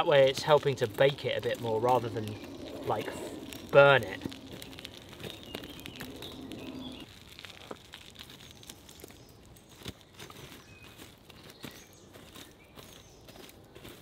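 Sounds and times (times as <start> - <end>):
campfire crackling and popping: 0.0 - 12.9.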